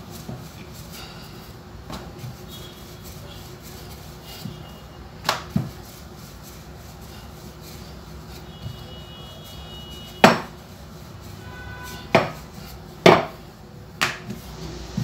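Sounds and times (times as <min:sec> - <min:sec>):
rolling pin rolling dough: 0:00.0 - 0:15.0.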